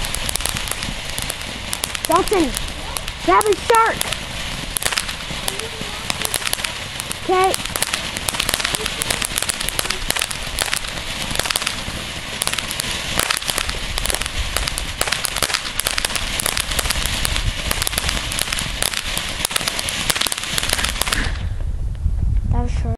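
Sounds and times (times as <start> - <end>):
firework fountain hissing and crackling: 0.0 - 21.9.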